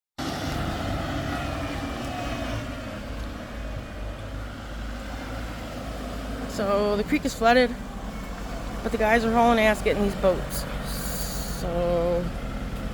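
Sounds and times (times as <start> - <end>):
vehicle engine running: 0.2 - 12.9
faint engine tones: 0.4 - 12.9.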